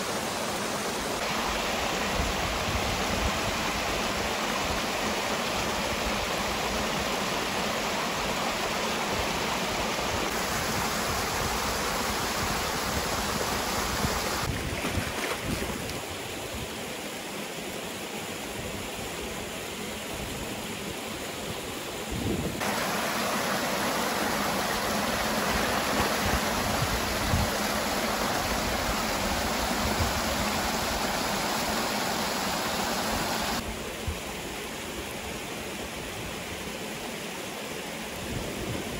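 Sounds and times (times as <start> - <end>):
river water rushing over rocks: 0.0 - 18.0, 22.6 - 35.8.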